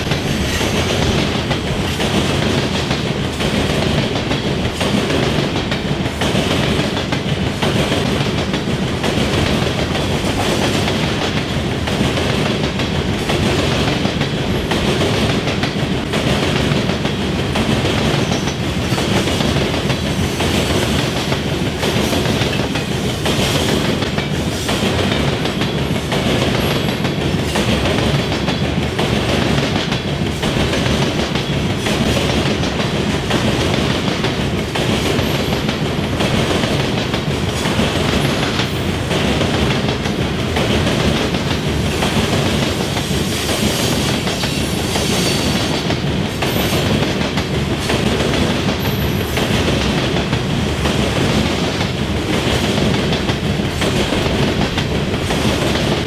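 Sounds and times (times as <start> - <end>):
freight train rumbling past: 0.0 - 56.0
train wheels clacking: 0.0 - 56.0.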